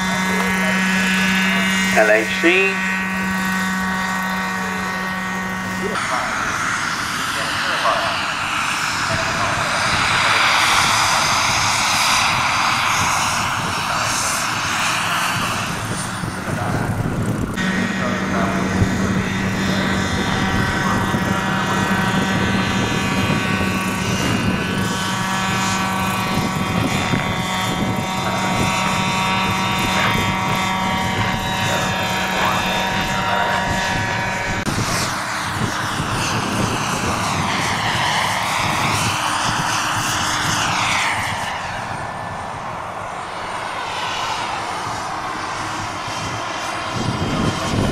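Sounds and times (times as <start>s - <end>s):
rushing sound sweeping up and down: 0.0s - 45.8s
model helicopter turbine whine: 0.0s - 47.9s.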